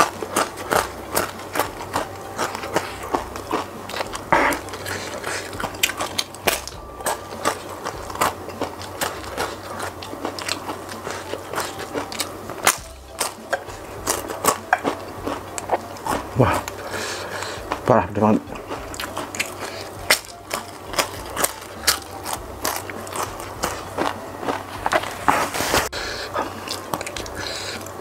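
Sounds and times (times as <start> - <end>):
crunching and chewing of chips: 0.0 - 28.0.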